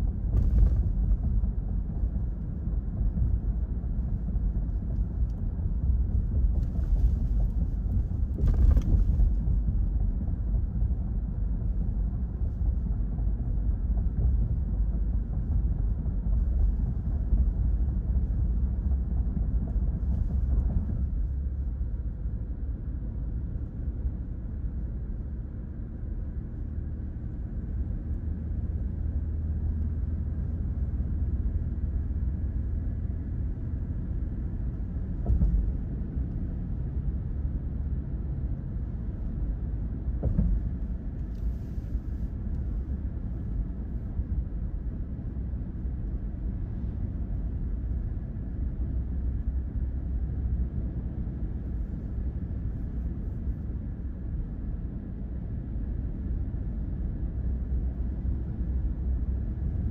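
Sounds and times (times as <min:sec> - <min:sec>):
car road hum from inside: 0:00.0 - 0:59.9.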